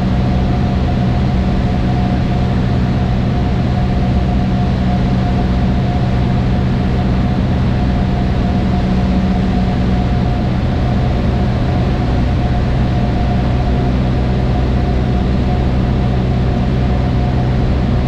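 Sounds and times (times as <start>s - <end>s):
small plane engine drone: 0.0s - 18.0s.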